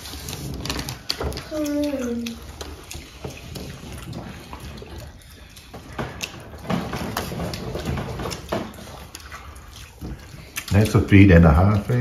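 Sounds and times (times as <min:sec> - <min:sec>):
people chewing: 0:00.0 - 0:12.0.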